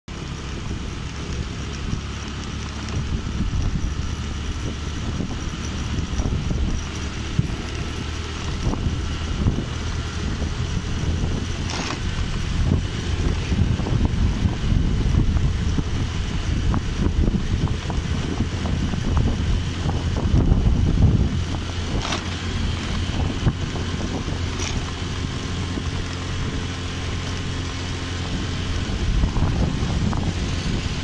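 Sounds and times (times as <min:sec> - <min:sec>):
motorcycle engine rumble: 0:00.1 - 0:31.0
wind buffeting microphone: 0:00.1 - 0:31.0.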